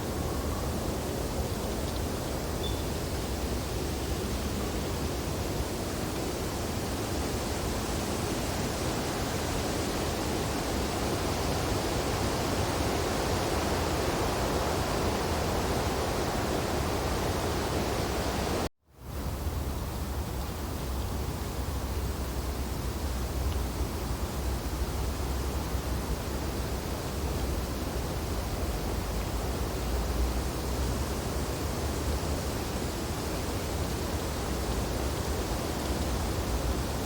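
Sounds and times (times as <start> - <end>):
wind through tree branches: 0.0 - 37.0.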